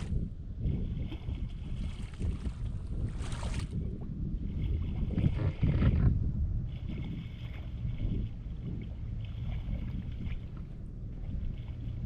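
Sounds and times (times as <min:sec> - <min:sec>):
water sloshing and splashing: 0:00.0 - 0:12.0
wind rumble on microphone: 0:00.0 - 0:12.0.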